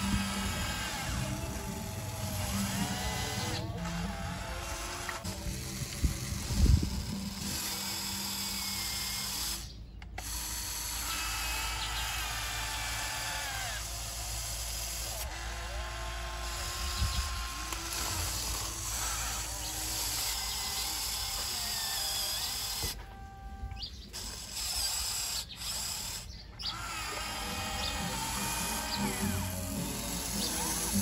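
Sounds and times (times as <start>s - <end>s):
hydraulic pump whining: 0.0s - 31.0s.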